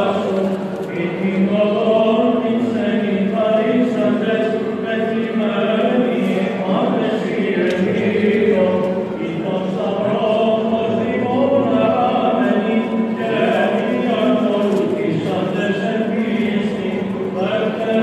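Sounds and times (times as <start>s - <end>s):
group of voices chanting a hymn: 0.0s - 18.0s.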